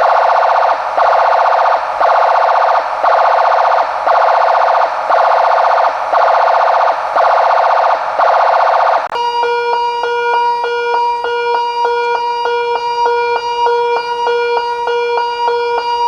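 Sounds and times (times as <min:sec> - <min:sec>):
electronic warning siren: 0:00.0 - 0:16.0.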